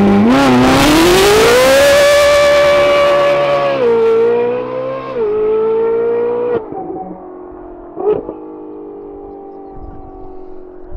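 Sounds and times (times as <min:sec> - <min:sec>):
sports car engine screaming: 0:00.0 - 0:10.8.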